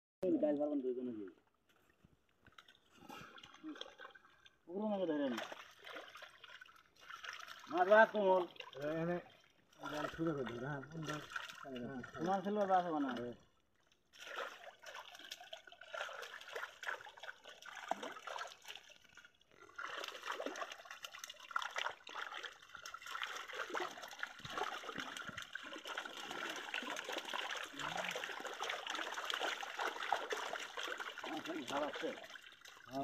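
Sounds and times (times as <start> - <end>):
hands scooping through water: 1.7 - 4.6, 5.2 - 33.0
fish thrashing in shallow water: 2.5 - 4.6, 5.2 - 13.2, 14.0 - 33.0.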